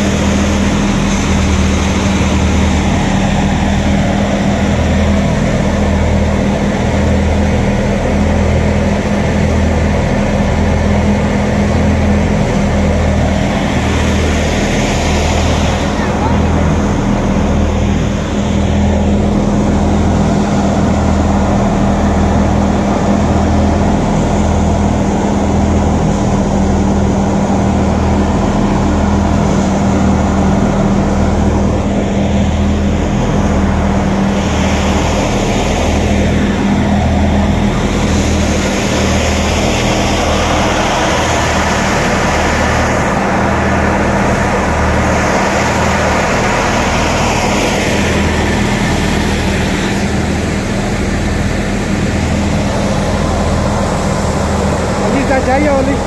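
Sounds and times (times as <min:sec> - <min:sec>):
tractor driven thresher humming: 0:00.0 - 0:56.0.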